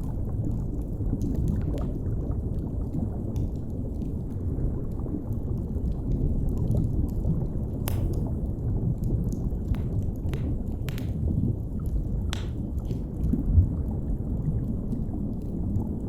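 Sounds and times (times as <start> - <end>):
wood fire crackling: 0.0 - 15.7
underwater rumble and wash: 0.0 - 16.0.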